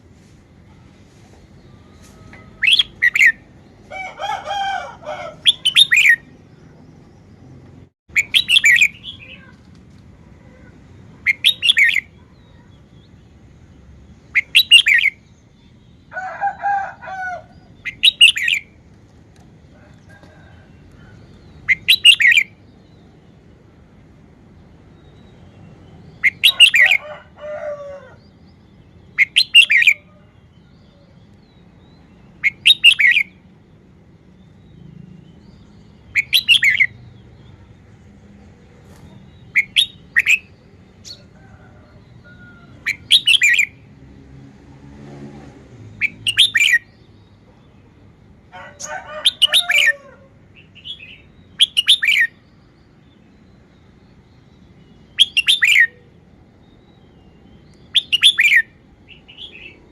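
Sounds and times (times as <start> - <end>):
bird singing warbled phrases: 1.5 - 43.9, 45.9 - 59.9.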